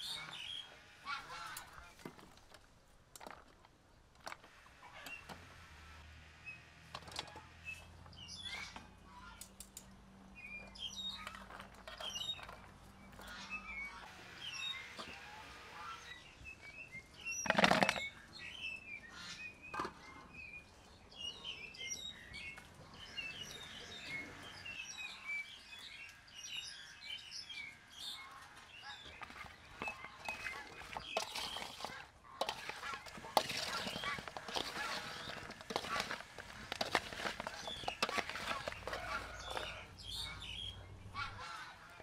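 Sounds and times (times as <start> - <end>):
small birds chirping: 0.0 - 2.0, 7.4 - 42.0.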